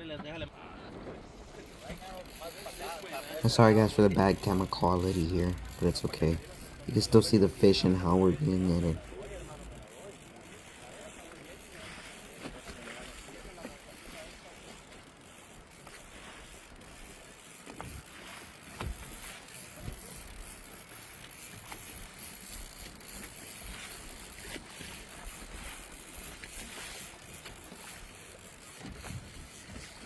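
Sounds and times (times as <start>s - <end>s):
steady boat noise: 0.0s - 30.0s.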